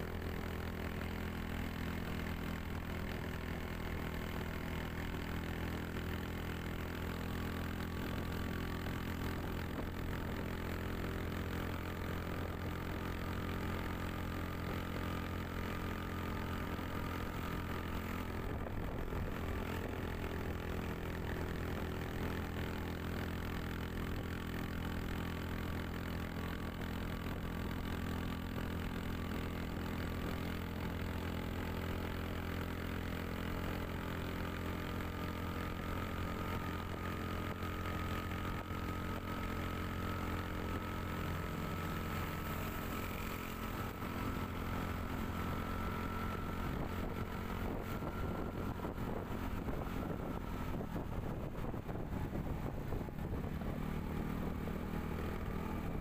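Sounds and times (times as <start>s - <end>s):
vehicle engine and road hum: 0.0s - 56.0s.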